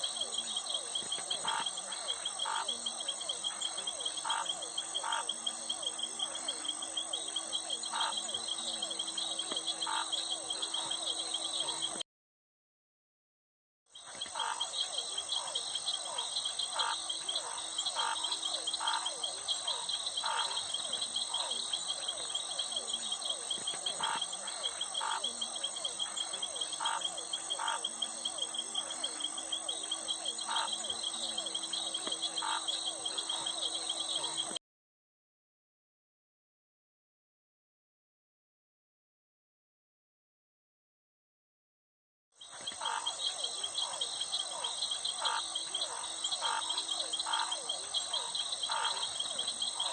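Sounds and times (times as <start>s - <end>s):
crickets trilling: 0.0s - 12.0s, 14.0s - 34.5s, 42.4s - 49.9s
frog calls: 0.0s - 12.0s, 14.0s - 34.6s, 42.4s - 49.9s.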